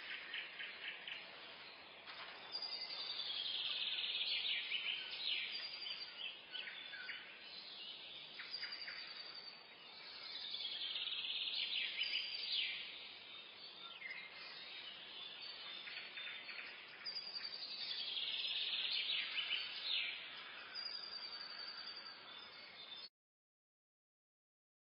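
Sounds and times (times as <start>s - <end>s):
birds chirping and singing: 0.0s - 23.1s.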